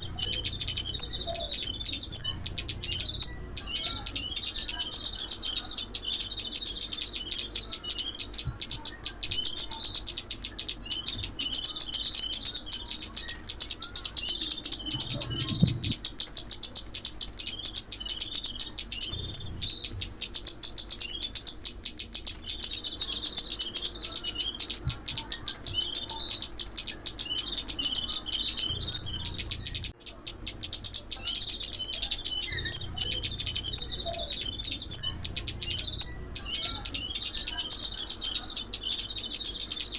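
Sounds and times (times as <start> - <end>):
songbird chirping and twittering: 0.0 - 39.9.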